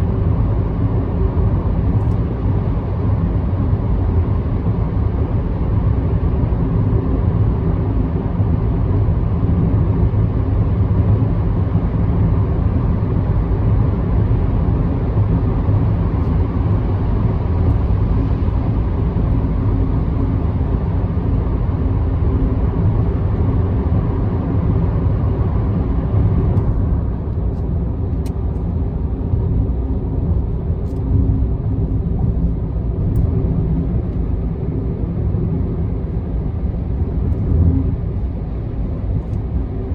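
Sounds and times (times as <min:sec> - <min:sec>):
low engine rumble: 0:00.0 - 0:39.9.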